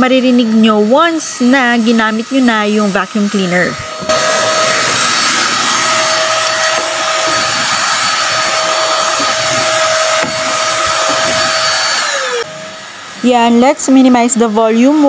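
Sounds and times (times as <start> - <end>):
handheld vacuum cleaner running: 0.0 - 15.0.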